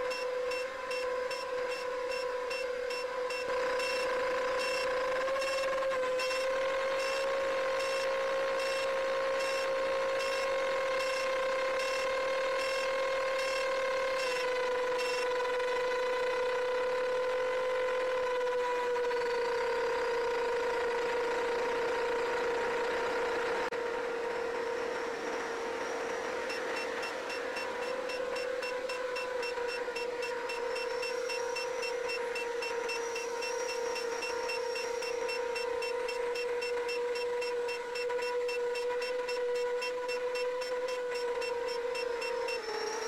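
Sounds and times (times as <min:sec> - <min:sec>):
quadcopter motors whining: 0:00.0 - 0:43.0.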